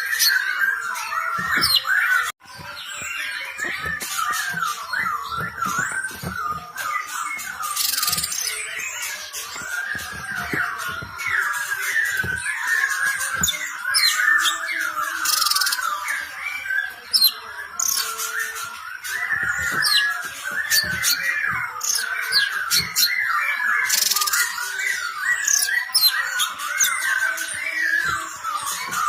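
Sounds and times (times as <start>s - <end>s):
songbird chirping and warbling: 0.0s - 29.0s.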